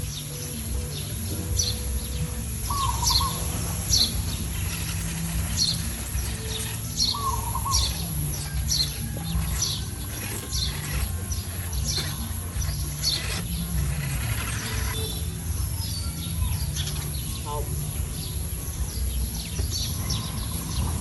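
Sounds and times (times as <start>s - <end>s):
bird chirping: 0.0s - 21.0s
steady low hum: 0.0s - 21.0s.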